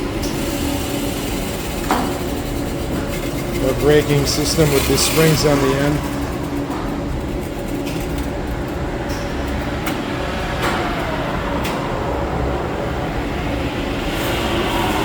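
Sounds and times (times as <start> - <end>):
hoist machine rumbling: 0.0 - 15.0.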